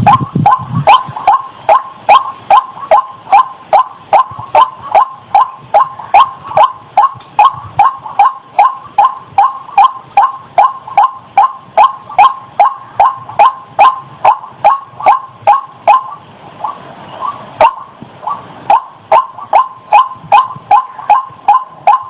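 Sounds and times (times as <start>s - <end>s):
bird calling with harsh barking notes: 0.0s - 22.0s.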